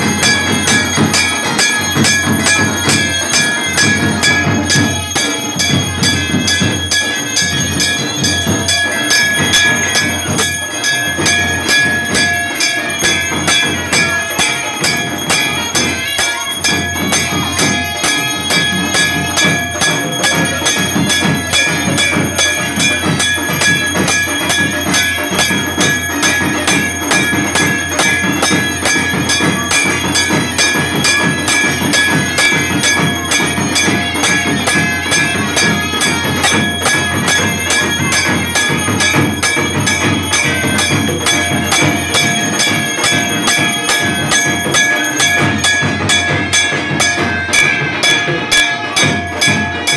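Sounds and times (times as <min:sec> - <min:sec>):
bells ringing rapidly: 0:00.0 - 0:49.9
rhythmic beat: 0:00.0 - 0:49.9.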